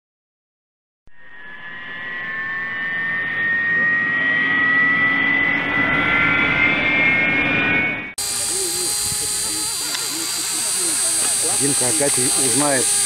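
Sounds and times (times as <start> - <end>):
rising jet engine whine: 1.1 - 13.0.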